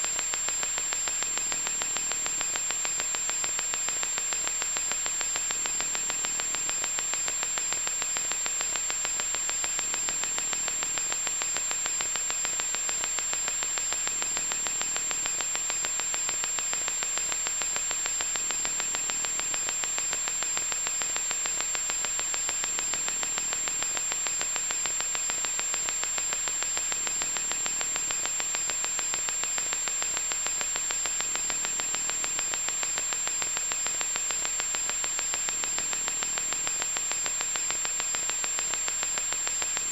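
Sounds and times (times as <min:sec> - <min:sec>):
electronic static hiss and crackle: 0:00.0 - 0:39.9.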